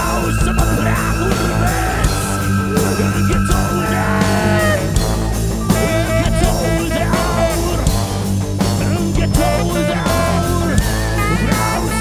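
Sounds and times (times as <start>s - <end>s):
bass line: 0.0s - 12.0s
drums: 0.0s - 12.0s
wavering lead line: 0.0s - 12.0s.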